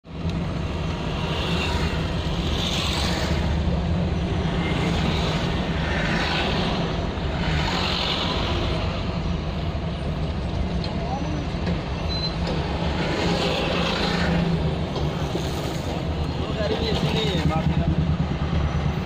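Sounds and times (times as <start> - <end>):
car cabin engine and road drone: 0.0 - 19.0.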